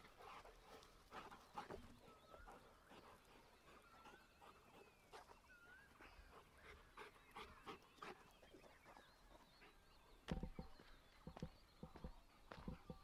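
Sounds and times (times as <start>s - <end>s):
faint birds twittering: 0.0s - 13.0s.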